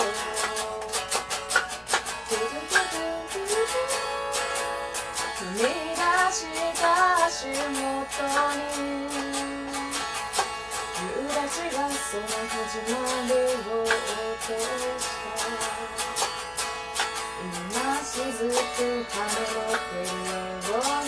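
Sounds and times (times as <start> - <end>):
woman singing: 0.0 - 1.4, 2.2 - 16.4, 17.3 - 21.0
electric guitar strumming: 0.0 - 21.0.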